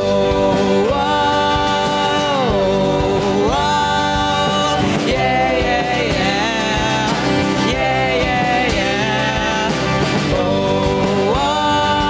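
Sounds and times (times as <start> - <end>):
live band playing: 0.0 - 12.0
person singing long sliding notes: 0.0 - 12.0.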